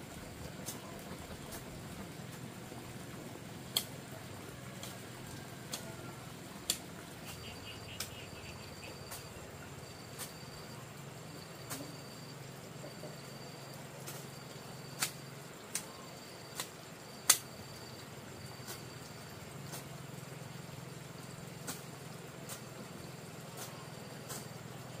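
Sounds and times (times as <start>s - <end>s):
low steady hum: 0.0s - 25.0s
insects trilling: 3.7s - 25.0s.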